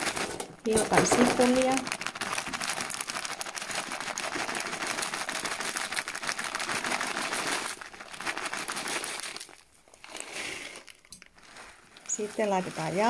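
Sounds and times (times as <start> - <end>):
dry flakes falling into pot: 0.0 - 13.0
plastic bag crinkling: 0.0 - 13.0.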